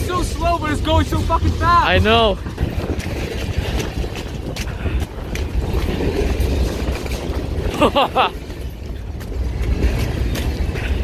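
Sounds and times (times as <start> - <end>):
train wheels clicking: 0.0 - 11.0.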